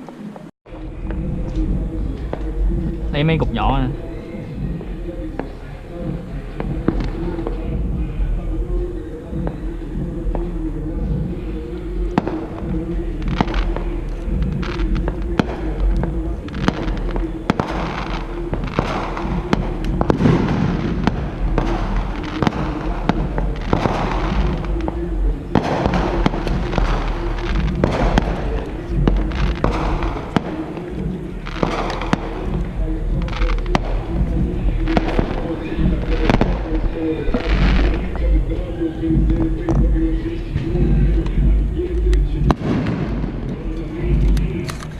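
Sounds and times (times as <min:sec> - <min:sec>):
fireworks crackling and popping: 0:00.0 - 0:44.9
fireworks hissing: 0:01.8 - 0:44.9.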